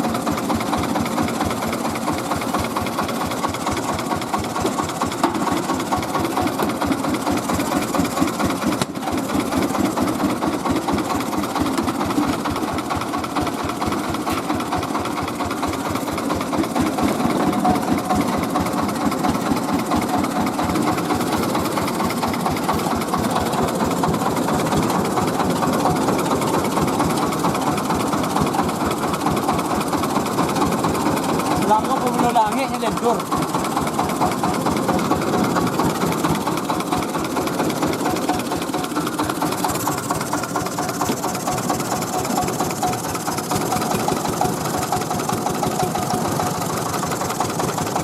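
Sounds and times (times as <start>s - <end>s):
rice milling machine running: 0.0s - 48.0s.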